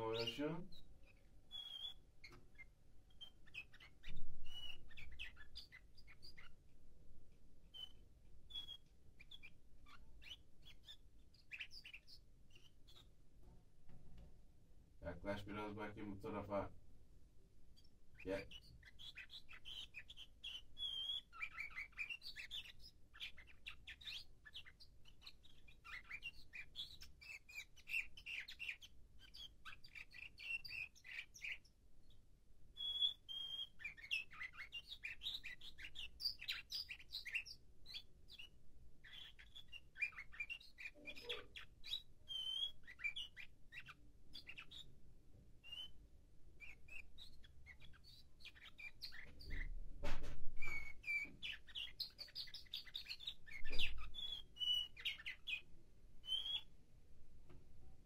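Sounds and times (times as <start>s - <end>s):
canary singing chirps and trills: 0.0s - 58.0s.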